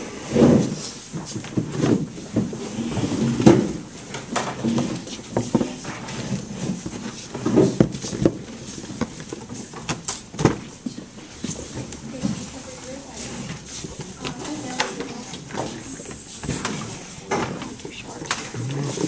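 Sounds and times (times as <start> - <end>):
knocks and clatter of movement: 0.0 - 19.0.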